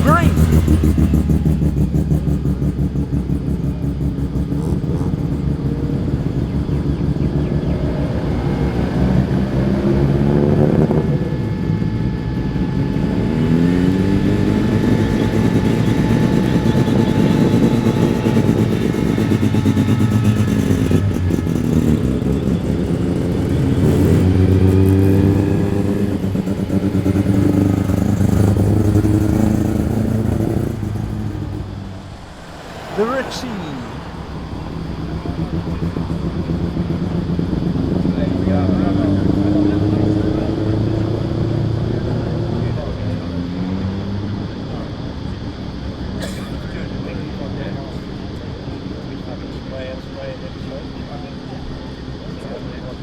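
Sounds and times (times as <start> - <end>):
engine throttle blips: 0.0 - 43.3
car engines driving past: 0.0 - 46.2.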